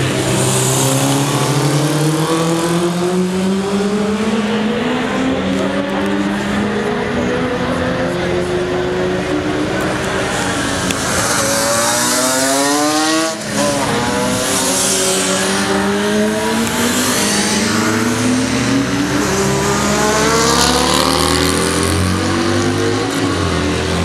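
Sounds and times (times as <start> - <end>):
motorcycles accelerating: 0.0 - 24.0.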